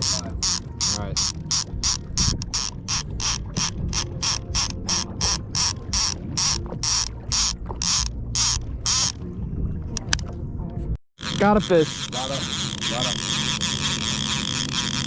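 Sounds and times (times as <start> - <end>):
fishing reel clicker ratcheting: 0.0 - 9.2, 11.2 - 15.0.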